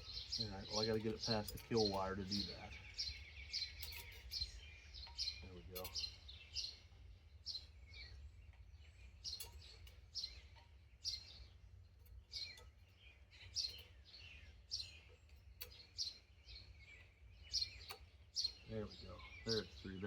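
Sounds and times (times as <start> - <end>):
small bird chirping: 0.0 - 20.0.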